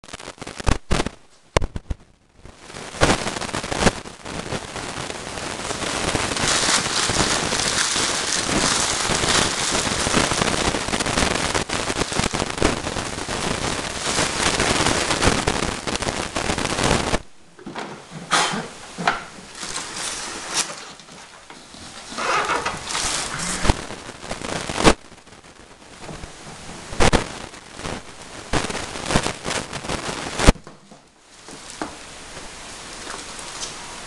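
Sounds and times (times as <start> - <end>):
plastic wrapping crinkling: 0.0 - 17.2, 18.0 - 34.0.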